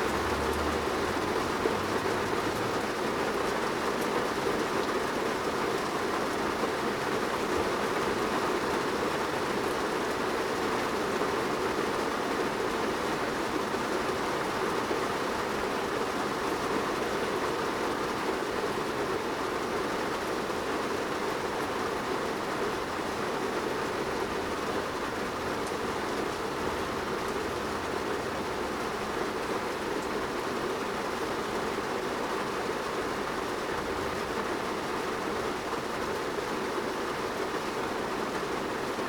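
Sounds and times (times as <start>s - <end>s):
rain on a car roof: 0.0s - 39.0s.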